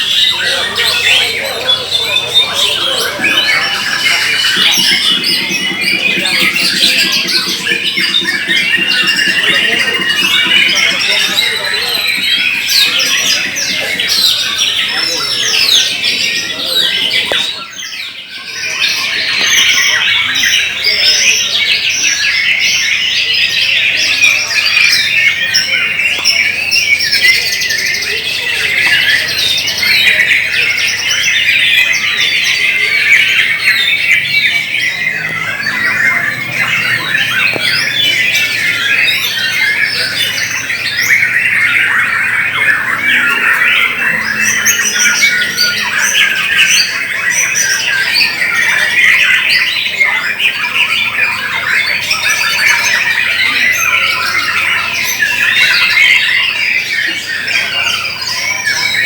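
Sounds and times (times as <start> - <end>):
many birds singing: 0.0 - 59.0.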